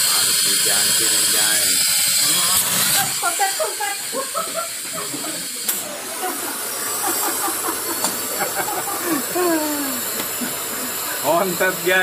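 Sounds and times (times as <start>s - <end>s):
steam hissing from valve: 0.0s - 12.0s.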